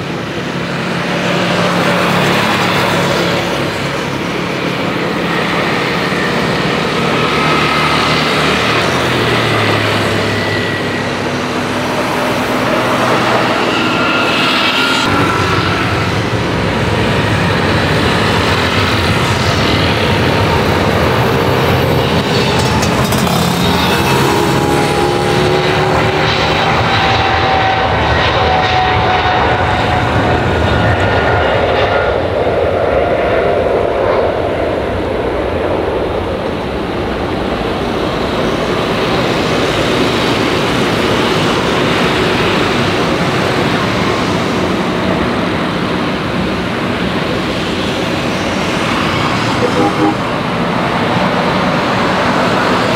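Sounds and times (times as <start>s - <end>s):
jet engines at takeoff power: 0.0s - 52.9s.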